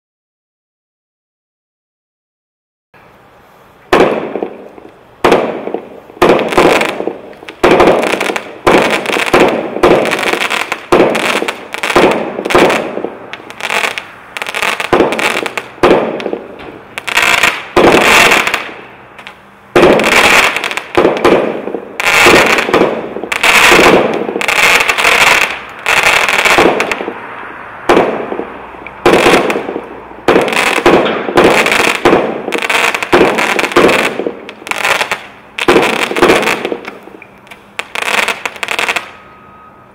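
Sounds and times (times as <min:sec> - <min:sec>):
firework shots crackling: 0:03.8 - 0:39.2.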